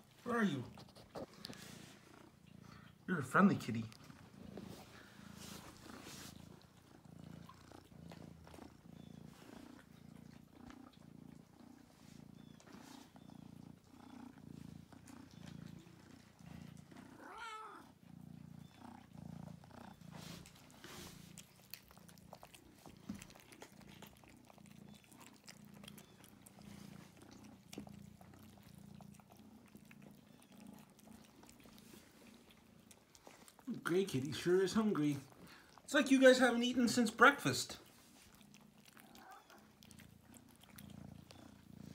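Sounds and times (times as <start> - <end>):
kitten purring: 0.0 - 41.9.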